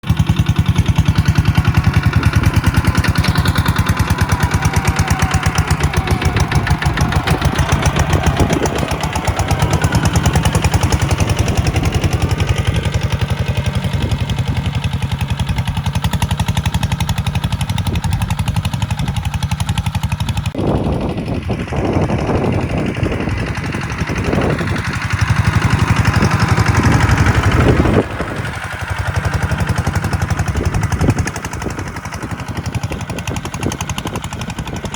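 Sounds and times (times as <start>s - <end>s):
tractor diesel engine chugging: 0.0s - 34.9s.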